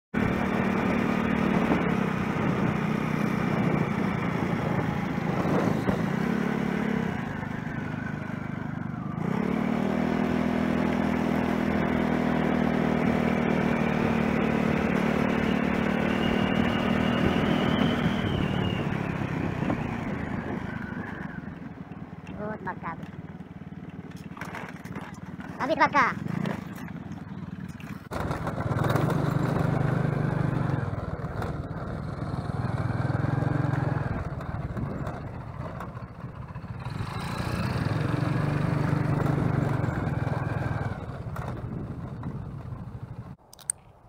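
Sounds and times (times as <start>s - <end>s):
motorcycle engine running: 0.1s - 43.4s.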